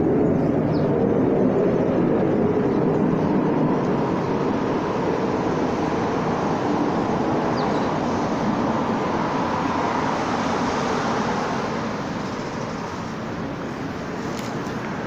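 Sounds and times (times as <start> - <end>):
road traffic roar: 0.0 - 15.0.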